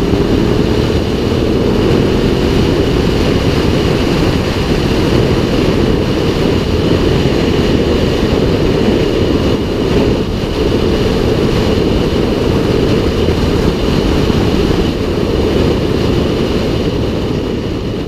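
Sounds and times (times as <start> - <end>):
motorcycle engine: 0.0 - 18.0
road noise: 0.0 - 18.0
wind rush on microphone: 0.0 - 18.0.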